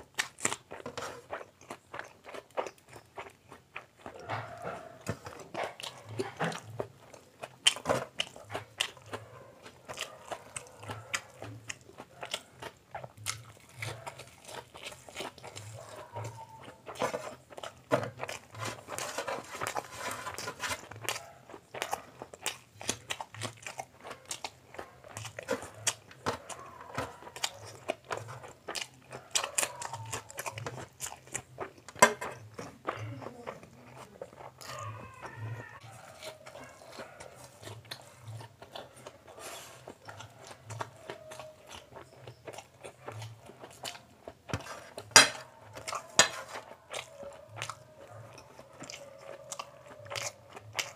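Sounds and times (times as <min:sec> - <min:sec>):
chewing and biting omelette: 0:00.0 - 0:50.9.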